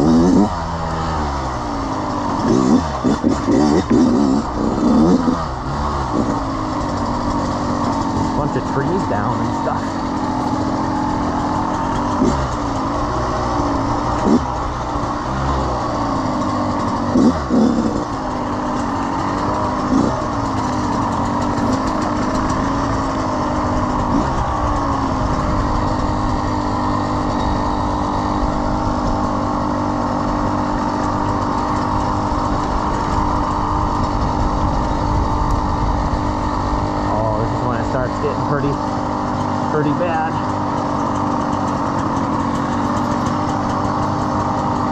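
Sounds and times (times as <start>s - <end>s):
dirt bike engine idling: 0.0s - 44.9s.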